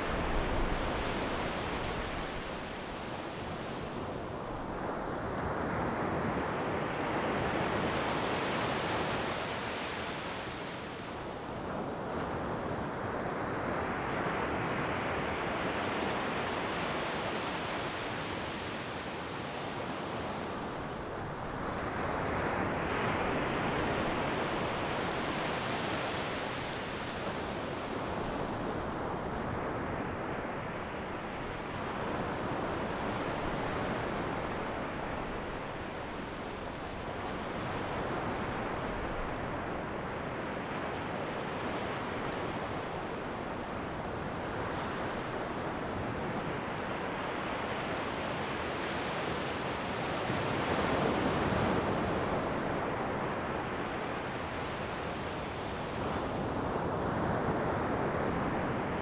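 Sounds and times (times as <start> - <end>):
ocean waves washing onto shore: 0.0 - 59.0.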